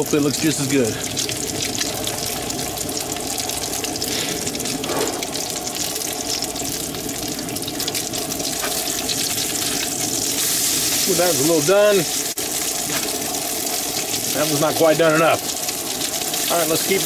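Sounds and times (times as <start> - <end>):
patties sizzling in a skillet: 0.0 - 17.0.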